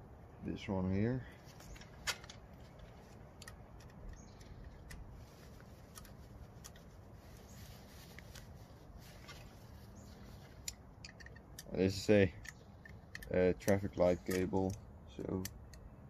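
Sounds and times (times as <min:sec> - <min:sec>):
handling rustle: 0:01.2 - 0:14.8.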